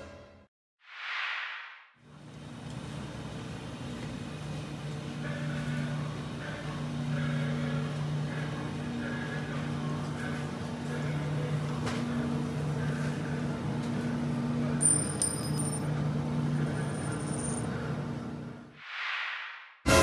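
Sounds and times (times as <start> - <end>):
refrigerated display case humming: 2.0 - 18.7.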